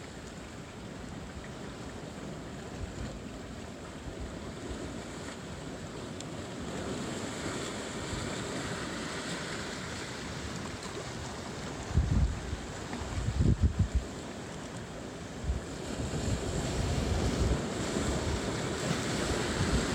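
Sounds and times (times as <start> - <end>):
surf washing over rocks: 0.0 - 19.9.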